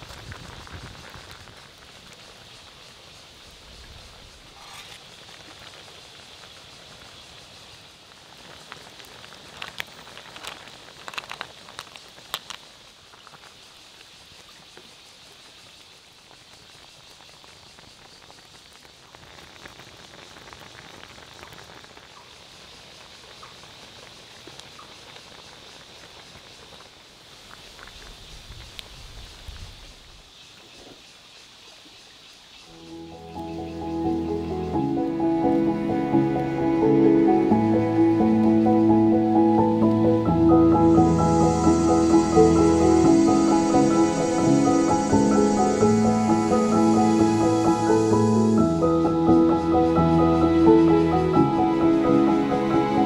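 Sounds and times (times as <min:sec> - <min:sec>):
broth bubbling in a pot: 0:00.0 - 0:30.4, 0:32.7 - 0:51.6.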